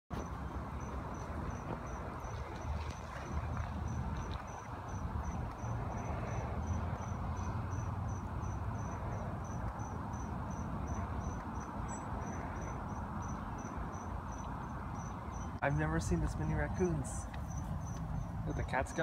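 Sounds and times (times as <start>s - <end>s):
steady low rumble: 0.1s - 19.0s
insect chirping: 0.2s - 19.0s.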